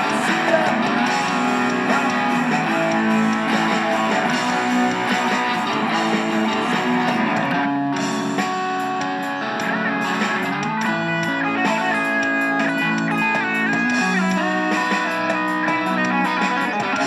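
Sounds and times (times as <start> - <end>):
guitar-led band music: 0.0 - 17.0.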